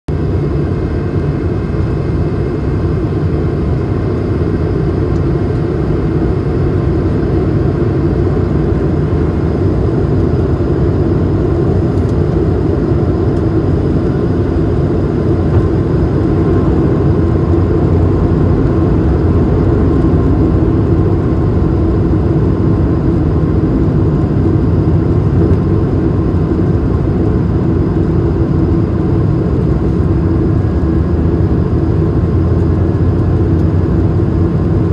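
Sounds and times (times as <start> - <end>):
airflow and engine noise in cabin: 0.1 - 34.9.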